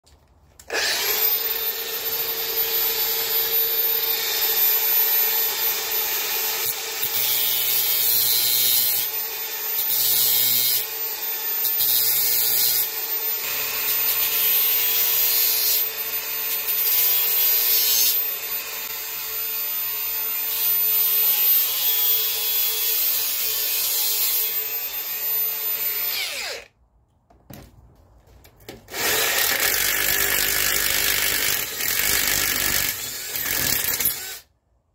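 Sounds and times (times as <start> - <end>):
angle grinder grinding metal: 0.6 - 26.7, 28.9 - 34.4
drill motor whirring: 0.6 - 26.7, 28.9 - 34.5.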